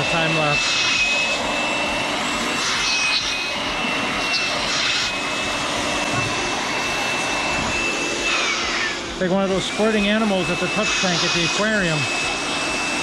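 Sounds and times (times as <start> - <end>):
air blower whining: 0.0 - 13.0.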